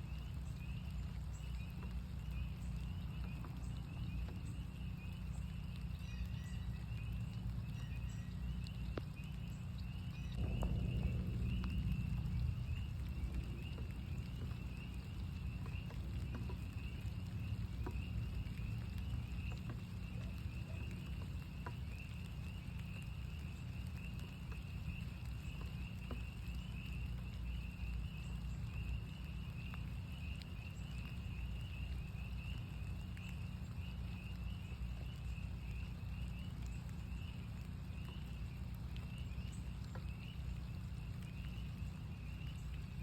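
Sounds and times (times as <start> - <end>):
low rumble: 0.0 - 42.7
chorus of frogs peeping: 0.0 - 43.0
raindrop ticks: 0.0 - 43.0
steady rain: 0.0 - 43.0.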